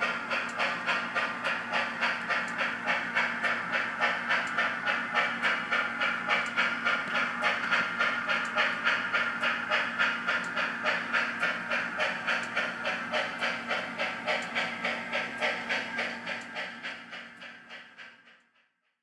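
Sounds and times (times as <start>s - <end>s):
steam locomotive exhaust chuffs: 0.0s - 18.7s.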